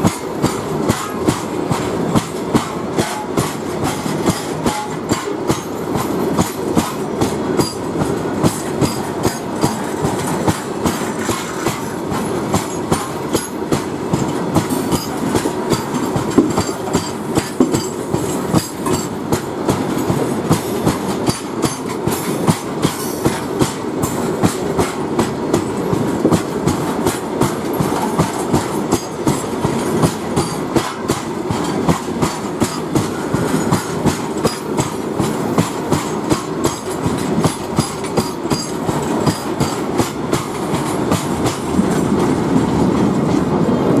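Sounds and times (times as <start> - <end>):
train rumble: 0.0 - 44.0
train wheels clacking over rail joints: 0.0 - 44.0.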